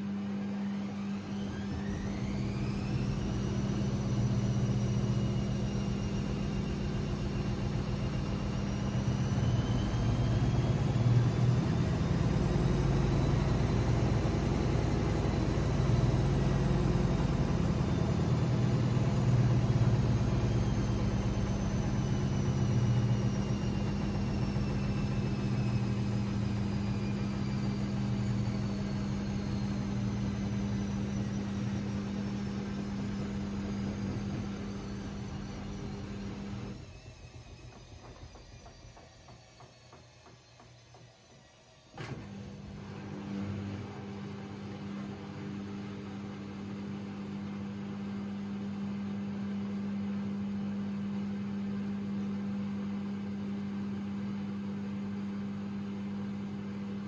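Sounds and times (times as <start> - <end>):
washing machine low hum and rumble: 0.0 - 57.0
washing machine motor whining: 0.0 - 57.0.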